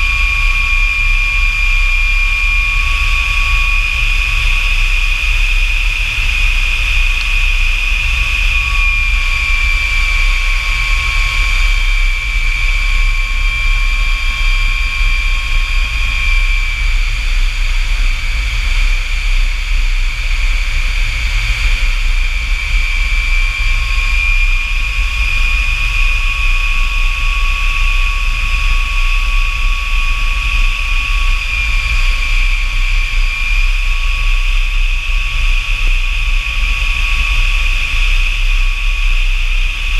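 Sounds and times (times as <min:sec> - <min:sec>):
turbojet engine whine: 0:00.0 - 0:39.9.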